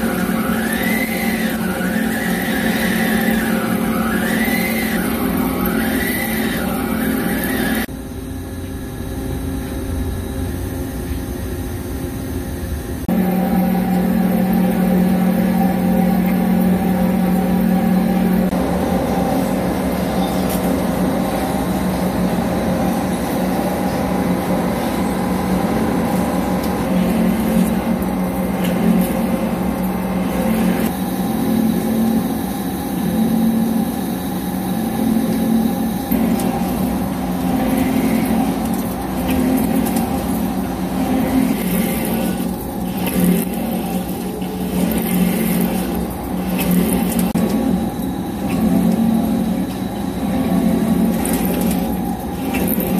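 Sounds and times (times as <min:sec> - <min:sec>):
metal cutting noise: 0:00.0 - 0:07.9, 0:13.1 - 0:52.9
lathe machine hum: 0:00.0 - 0:08.0, 0:12.6 - 0:52.9.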